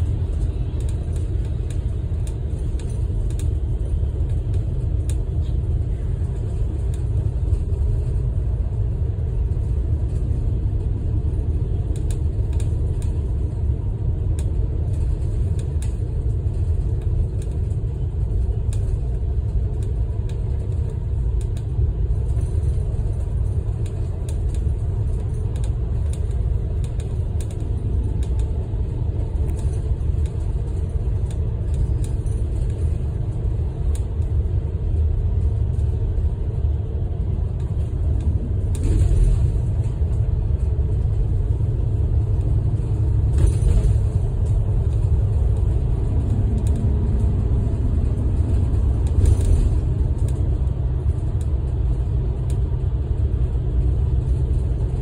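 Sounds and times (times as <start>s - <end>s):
engine and tyre rumble: 0.0s - 55.0s.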